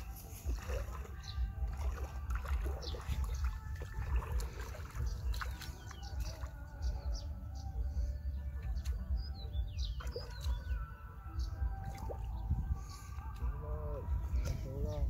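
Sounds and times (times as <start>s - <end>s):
muddy water sloshing: 0.0s - 15.0s
steady low rumble: 0.0s - 15.0s.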